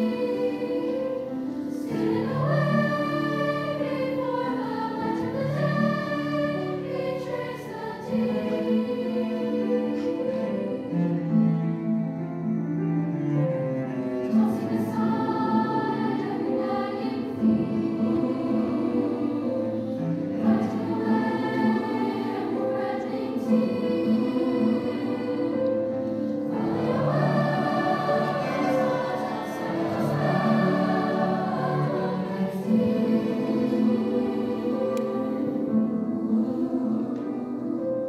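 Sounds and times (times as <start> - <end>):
choir singing in parts: 0.0 - 11.7, 14.0 - 38.0
cello: 0.0 - 38.0.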